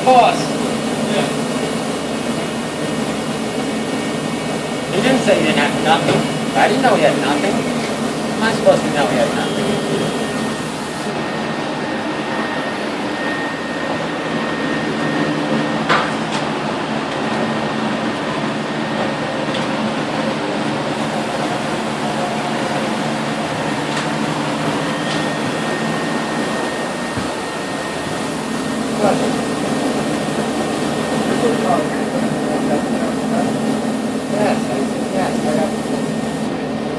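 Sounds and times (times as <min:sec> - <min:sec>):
machinery humming and whirring: 0:00.0 - 0:36.9.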